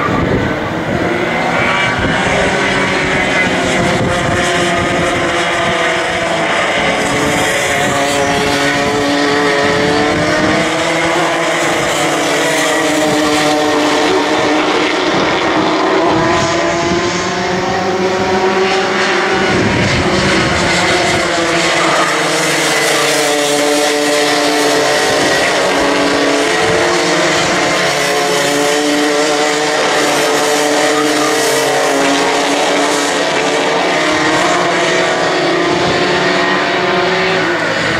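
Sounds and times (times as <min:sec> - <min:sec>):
kart engines revving: 0:00.0 - 0:37.9.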